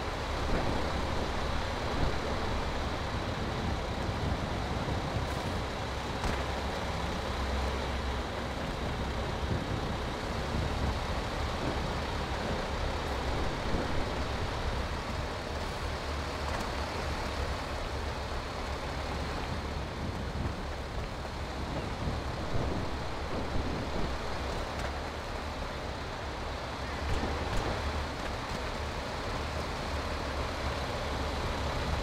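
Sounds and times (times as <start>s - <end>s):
heavy truck engine running: 0.0s - 32.0s.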